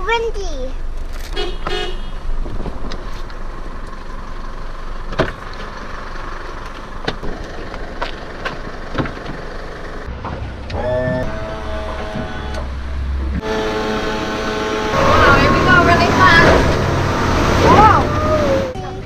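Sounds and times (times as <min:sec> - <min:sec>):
truck engine idling: 0:03.3 - 0:19.0.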